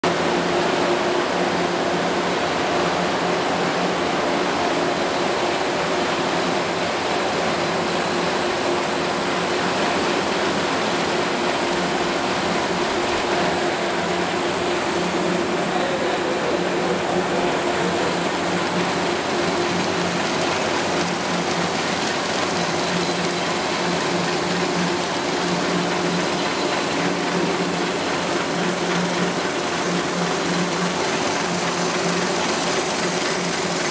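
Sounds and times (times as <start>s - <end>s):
paper collator whirring: 5.5s - 33.9s.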